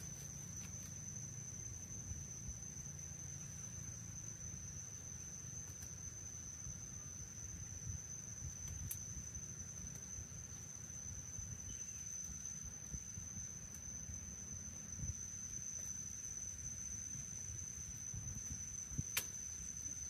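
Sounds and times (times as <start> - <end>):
high-pitched insect trill: 0.0 - 20.0.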